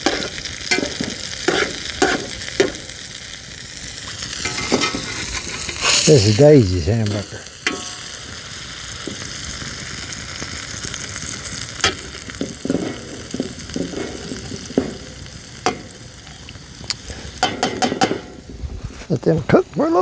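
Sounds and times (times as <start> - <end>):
meat and onions sizzling in a skillet: 0.0 - 20.0.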